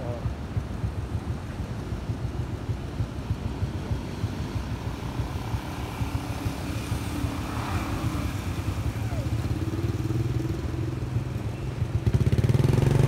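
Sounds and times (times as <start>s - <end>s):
wind buffeting microphone: 0.0s - 12.9s
motor vehicle engine: 0.0s - 13.0s
street traffic: 0.0s - 13.0s.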